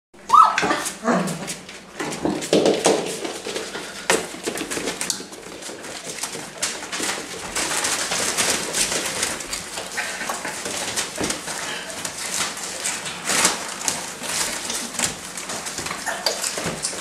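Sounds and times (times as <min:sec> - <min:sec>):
puppies squeaking and grunting: 0:00.2 - 0:02.0, 0:03.7 - 0:17.0.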